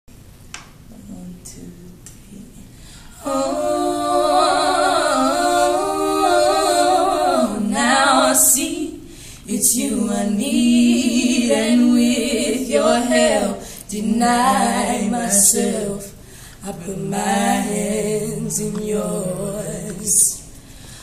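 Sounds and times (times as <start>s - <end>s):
women singing a cappella: 2.5s - 21.0s.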